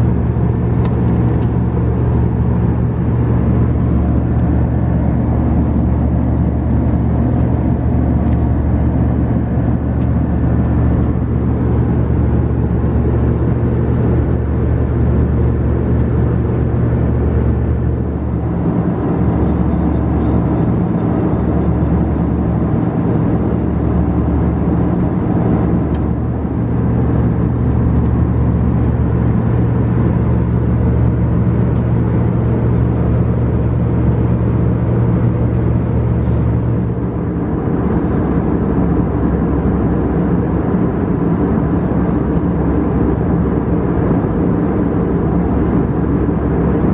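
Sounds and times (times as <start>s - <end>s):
vehicle running rumble: 0.0s - 46.9s.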